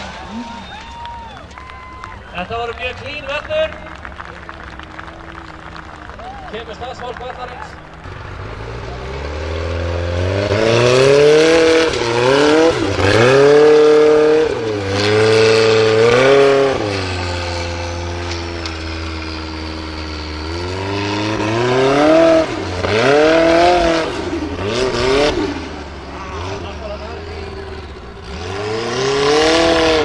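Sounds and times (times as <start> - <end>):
buggy engine revving hard: 0.0 - 30.0.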